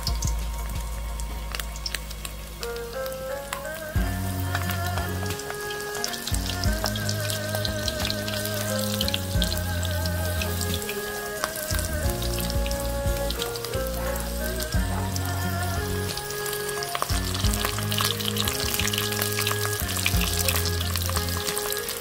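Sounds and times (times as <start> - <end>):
background music: 0.0 - 22.0
shrimp deep-frying in oil: 0.0 - 22.0.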